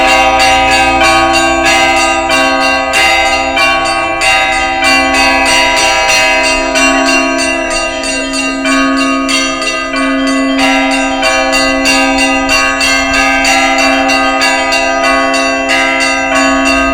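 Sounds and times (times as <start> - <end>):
large low church bell: 0.0 - 16.9
small church bells pealing rapidly: 0.0 - 16.9.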